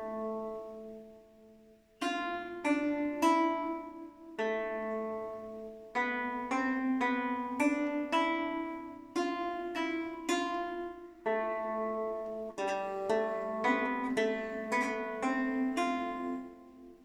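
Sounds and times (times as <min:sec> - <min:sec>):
plucked string instrument tune: 0:00.0 - 0:17.0.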